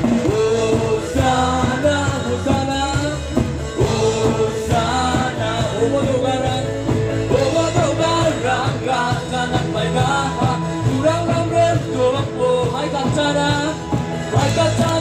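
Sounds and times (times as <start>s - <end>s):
worship song over loudspeakers: 0.0s - 15.0s.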